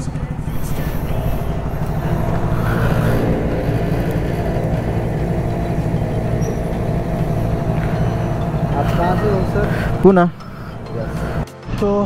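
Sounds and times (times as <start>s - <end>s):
engine idling: 0.0s - 11.4s.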